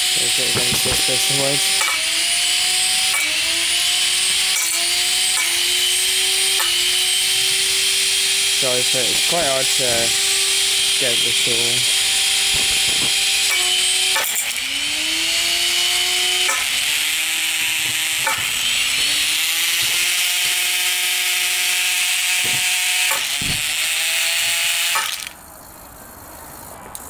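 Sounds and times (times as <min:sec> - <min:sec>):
wood hitting spinner: 0:00.0 - 0:25.4
spinning disc weapon whirring: 0:00.0 - 0:27.0.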